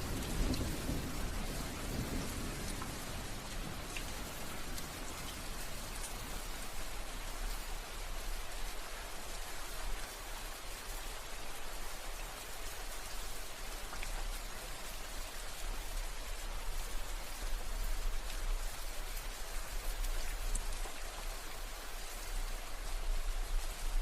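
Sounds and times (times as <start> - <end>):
raindrops ticking on a surface: 0.0 - 24.0
steady rain falling: 0.0 - 24.0.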